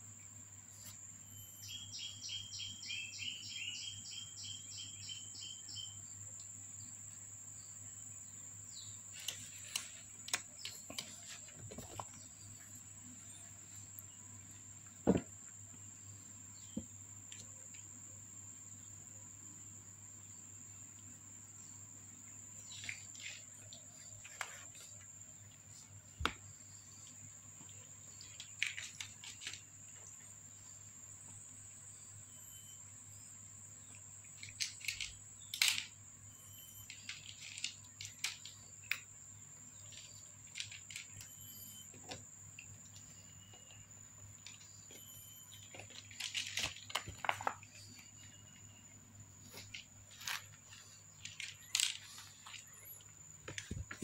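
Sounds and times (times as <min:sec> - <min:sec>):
bird chirping: 0:00.2 - 0:54.0.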